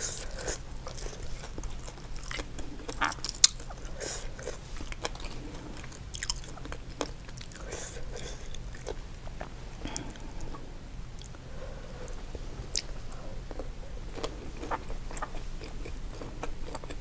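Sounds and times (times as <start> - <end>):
chewing and biting food: 0.0 - 11.4, 12.0 - 17.0.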